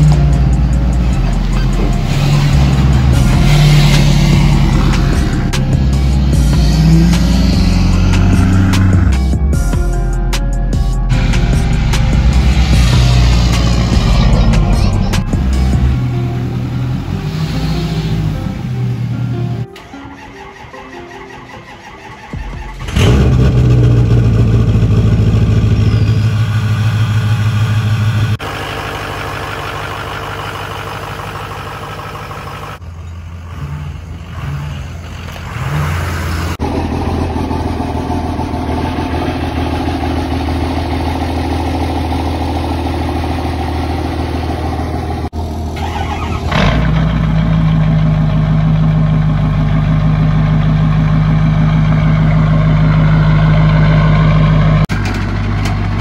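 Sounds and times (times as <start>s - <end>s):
vehicle engines idling and revving: 0.0s - 56.0s.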